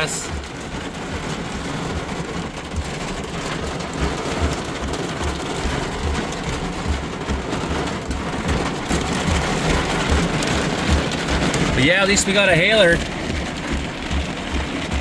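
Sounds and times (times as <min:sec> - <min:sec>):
heavy rain drumming on a vehicle: 0:00.0 - 0:15.0
regular low thump: 0:00.0 - 0:15.0.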